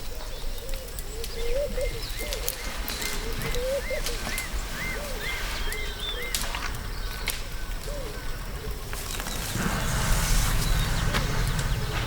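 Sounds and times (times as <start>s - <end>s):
birds calling: 0.1s - 12.0s.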